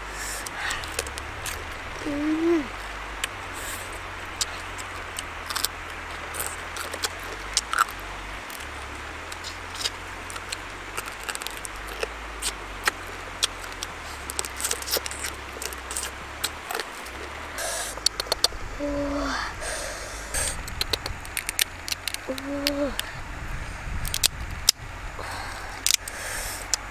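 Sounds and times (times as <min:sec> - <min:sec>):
low rumble: 0:00.0 - 0:26.9
crab shell cracking: 0:00.2 - 0:02.1, 0:03.2 - 0:18.6, 0:20.3 - 0:23.1, 0:24.0 - 0:26.9
mouth and lip smacks: 0:00.2 - 0:18.6, 0:19.6 - 0:23.1.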